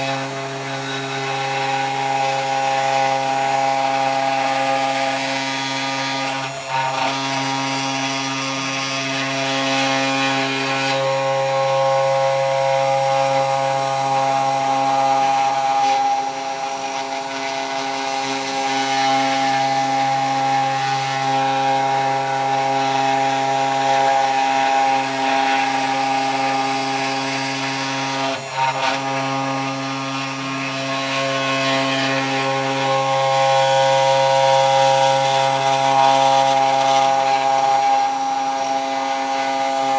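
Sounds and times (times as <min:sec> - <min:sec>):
router bit rasping into wood: 0:00.0 - 0:39.9.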